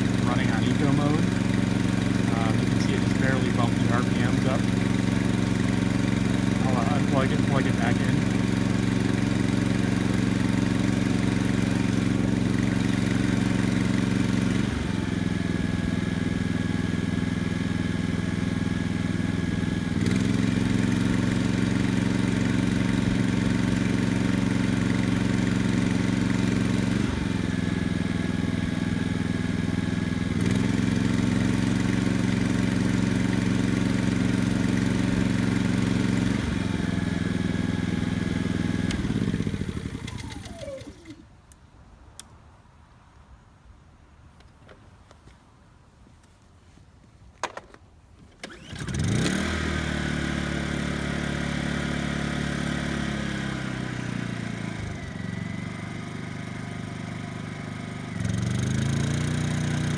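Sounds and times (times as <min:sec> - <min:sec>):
generator engine running: 0:00.0 - 0:41.3, 0:48.4 - 0:59.9.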